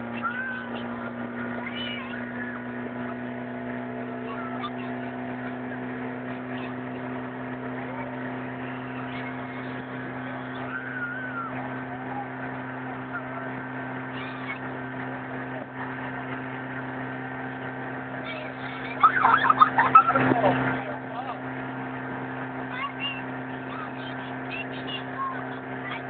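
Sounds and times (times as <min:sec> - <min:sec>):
motorboat engine droning: 0:00.0 - 0:26.0.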